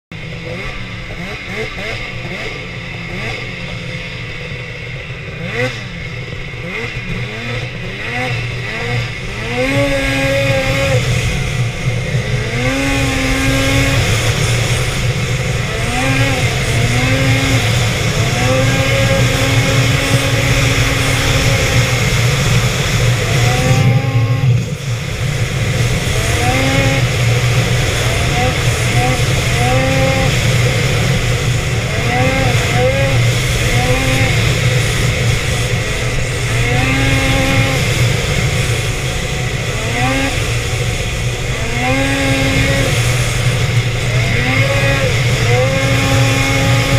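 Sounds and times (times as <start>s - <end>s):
snowmobile engine revving: 0.1s - 46.9s.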